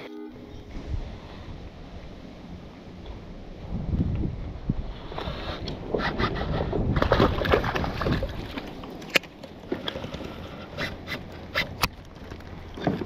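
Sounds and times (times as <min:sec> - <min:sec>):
water and handling rumble: 0:00.3 - 0:13.0.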